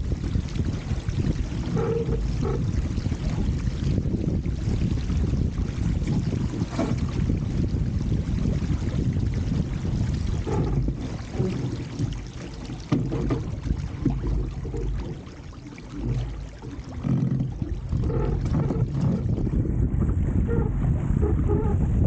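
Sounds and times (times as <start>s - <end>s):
water splashing along boat hull: 0.0s - 22.0s
wind buffeting microphone: 0.0s - 22.0s.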